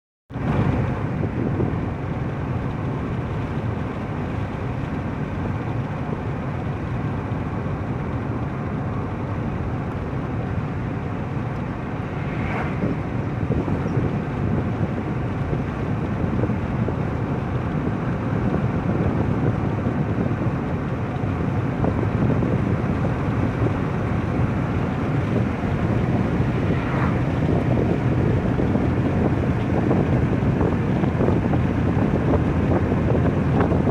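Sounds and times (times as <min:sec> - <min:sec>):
car wind and road noise: 0:00.3 - 0:33.9.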